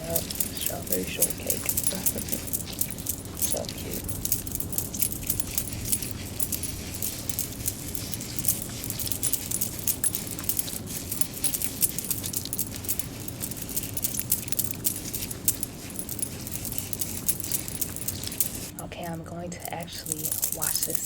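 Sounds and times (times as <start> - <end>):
fingernails scratching hair: 0.0 - 18.7.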